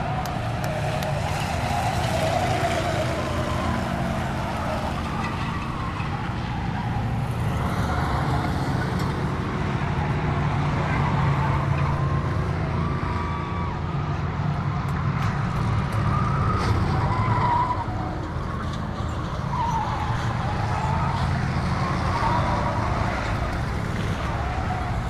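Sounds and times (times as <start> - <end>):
race car engines droning: 0.0 - 25.0
tyres skidding with high whine: 0.0 - 25.0.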